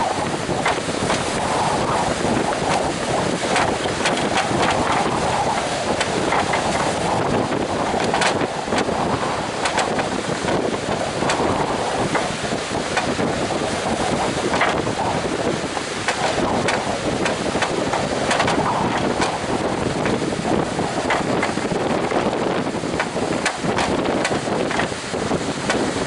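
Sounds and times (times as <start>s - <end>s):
surf rushing: 0.0s - 26.0s
wind buffeting microphone: 0.0s - 26.0s.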